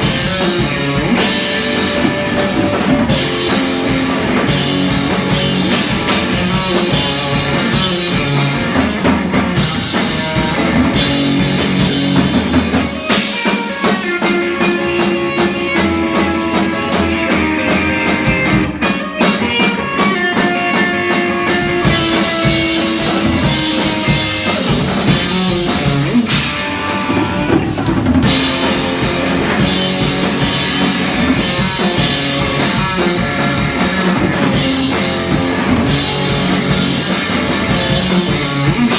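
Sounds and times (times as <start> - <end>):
drum strokes: 0.0 - 38.9
live rock band playing: 0.0 - 38.9.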